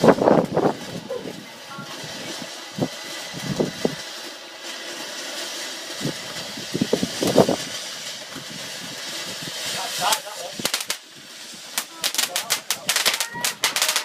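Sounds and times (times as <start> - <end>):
firework bursts: 0.0 - 14.0
firework hissing: 0.0 - 14.0.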